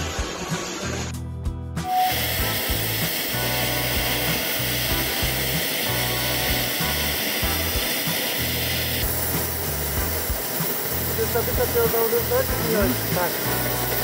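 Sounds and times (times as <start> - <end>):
cutting torch hissing: 0.0 - 1.2, 1.8 - 14.0
background music with bass: 0.0 - 14.0.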